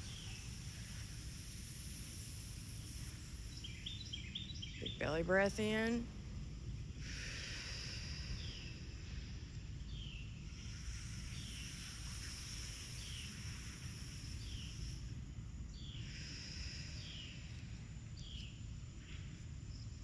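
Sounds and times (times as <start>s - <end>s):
bird chirping: 0.0s - 6.1s, 7.3s - 20.0s
high insect-like hiss: 0.0s - 20.0s
low outdoor rumble: 0.0s - 20.0s.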